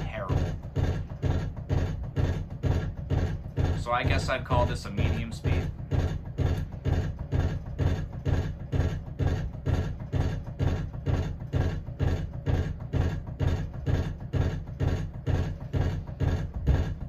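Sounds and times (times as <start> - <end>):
ceiling fan beating: 0.0 - 17.0.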